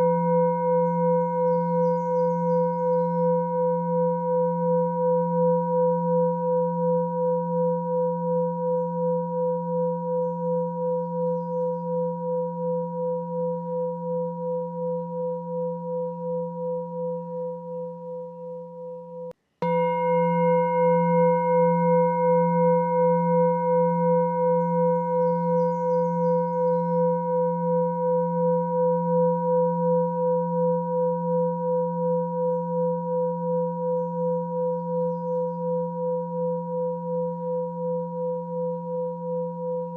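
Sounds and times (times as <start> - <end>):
ringing meditation tone: 0.0 - 39.9.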